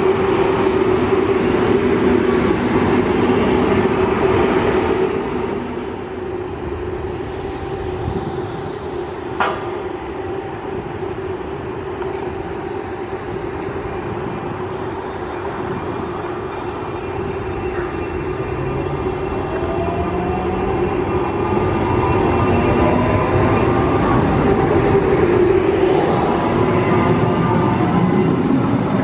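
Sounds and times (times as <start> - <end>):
train running with hum: 0.0 - 29.0.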